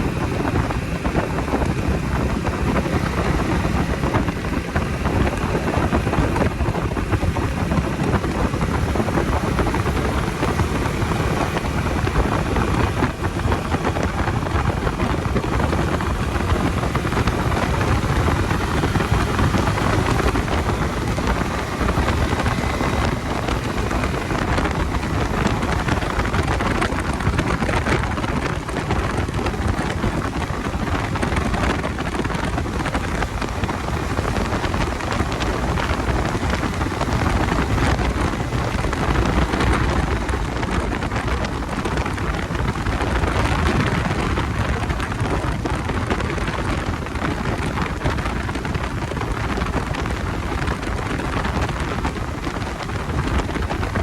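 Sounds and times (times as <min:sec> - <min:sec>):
motorcycle engine: 0:00.0 - 0:54.0
wind rush over microphone: 0:00.0 - 0:54.0.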